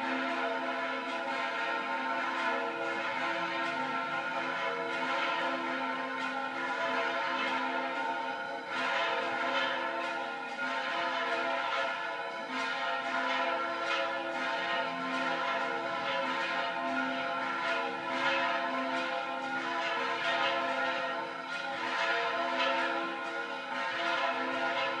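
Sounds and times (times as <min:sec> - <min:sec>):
church bells pealing: 0:00.0 - 0:25.0.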